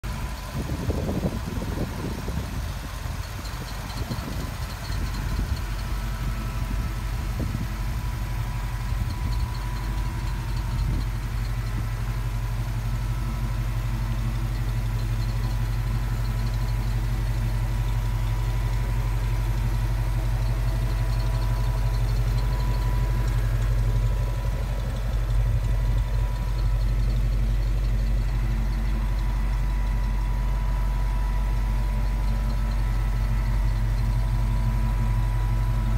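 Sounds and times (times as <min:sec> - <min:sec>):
pickup truck engine idling: 0:00.0 - 0:35.9.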